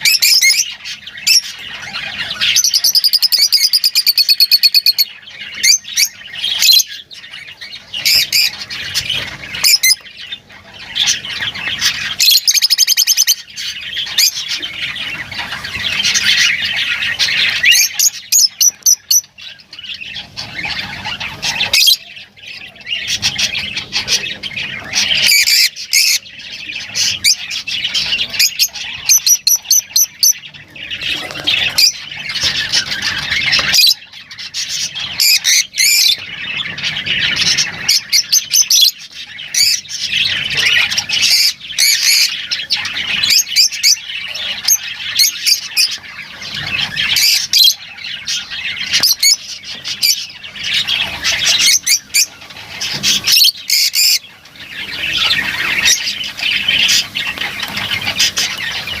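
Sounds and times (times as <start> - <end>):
lovebirds chattering and squawking: 0.0 - 59.0.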